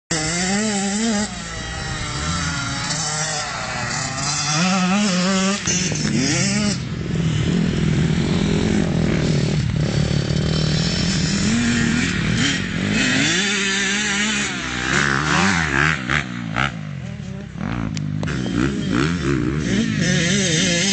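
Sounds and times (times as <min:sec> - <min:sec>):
motocross bike engine revving: 0:00.1 - 0:20.9.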